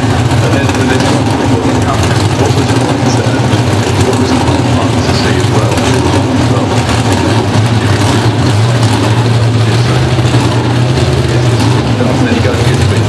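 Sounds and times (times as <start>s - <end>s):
loud drag car engine: 0.0s - 13.0s.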